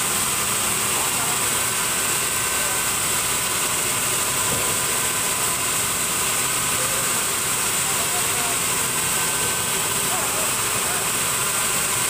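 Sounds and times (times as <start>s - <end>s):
band sawmill running: 0.0s - 12.0s
constant high hiss: 0.0s - 12.0s.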